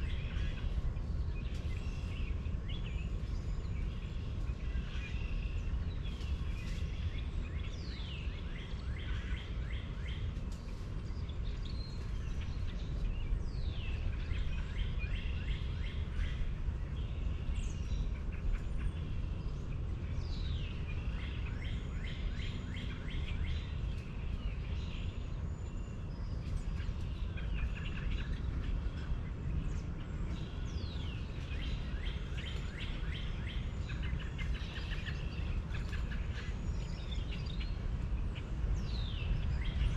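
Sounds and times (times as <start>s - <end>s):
songbird singing: 0.0s - 39.9s
steady low rumble: 0.0s - 39.9s.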